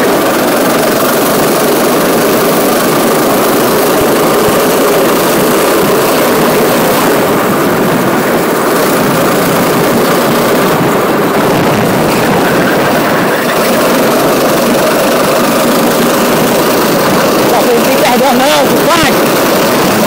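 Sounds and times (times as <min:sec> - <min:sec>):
go-kart engine running hard: 0:00.0 - 0:20.0.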